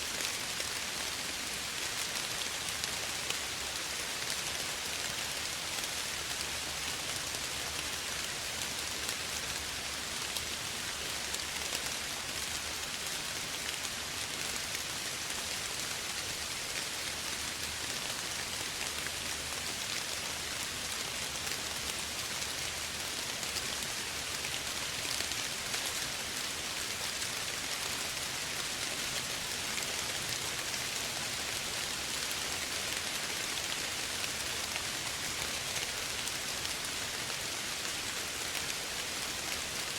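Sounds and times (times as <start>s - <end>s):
soft rain pattering: 0.0s - 39.9s.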